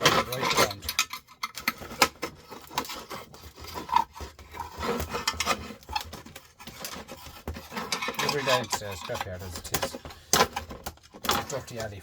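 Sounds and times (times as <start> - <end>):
screwdriver scraping and clicking: 0.0 - 11.9.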